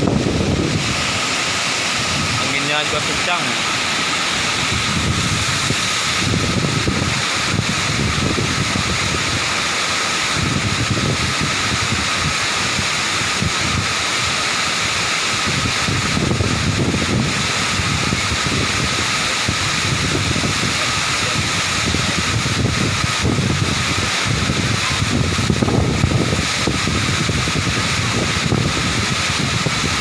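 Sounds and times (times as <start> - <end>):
wind buffeting microphone: 0.0 - 14.0, 15.4 - 30.0
waterfall rushing: 0.0 - 30.0.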